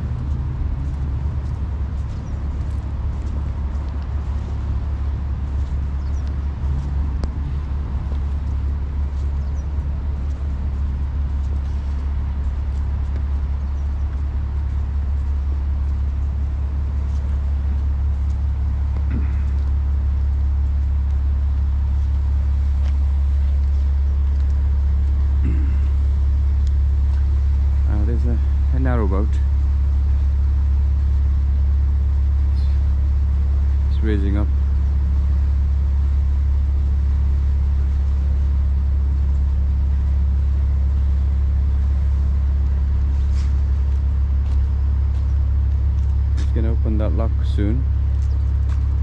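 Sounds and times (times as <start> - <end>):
low engine rumble: 0.0 - 49.0.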